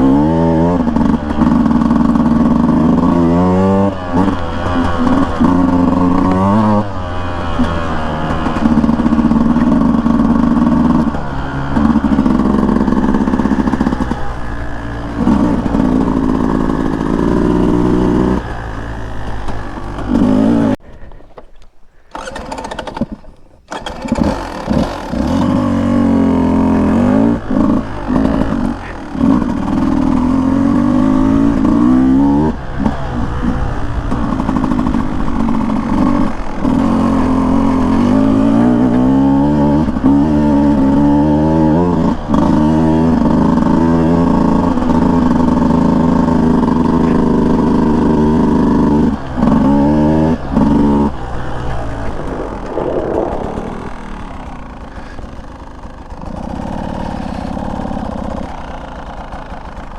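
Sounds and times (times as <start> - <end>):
dirt bike engine revving: 0.0 - 21.1, 21.9 - 59.9.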